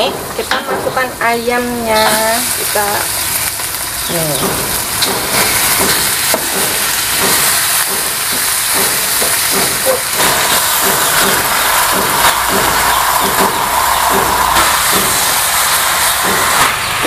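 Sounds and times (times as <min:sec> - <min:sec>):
chicken sizzling in hot oil: 0:01.3 - 0:17.0.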